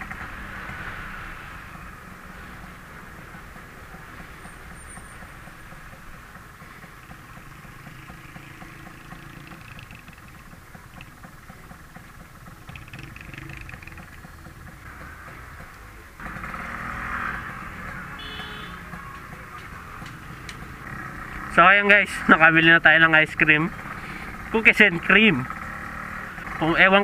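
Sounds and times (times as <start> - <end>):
motorcycle engine running: 0.0 - 27.0
road and wind noise: 0.0 - 27.0.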